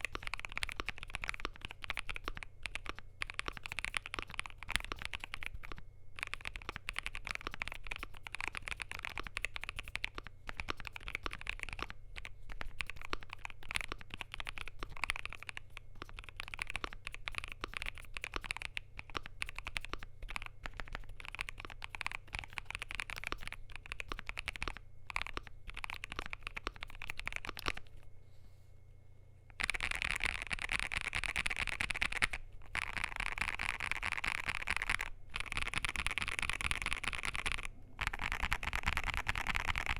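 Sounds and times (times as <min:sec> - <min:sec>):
typing on mechanical keyboard: 0:00.0 - 0:28.0, 0:29.5 - 0:39.9.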